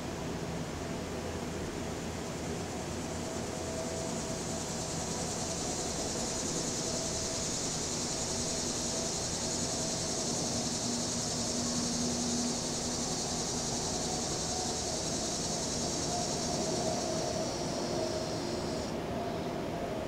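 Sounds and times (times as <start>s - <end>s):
cicadas buzzing: 0.0s - 20.0s
distant highway traffic: 2.9s - 20.0s.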